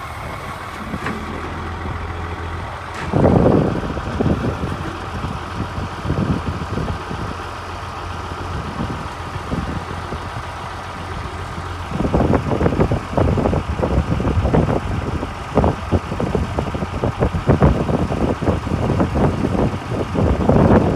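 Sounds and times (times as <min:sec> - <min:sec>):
diesel engine running: 0:00.0 - 0:20.9
loud knocking and rumbling: 0:00.0 - 0:20.9.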